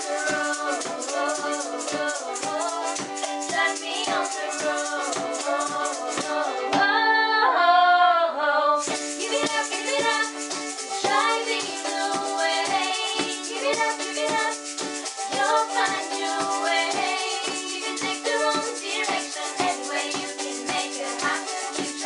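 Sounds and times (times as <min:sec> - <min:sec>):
box drum beat: 0:00.0 - 0:06.4, 0:08.8 - 0:22.0
women singing: 0:00.0 - 0:22.0.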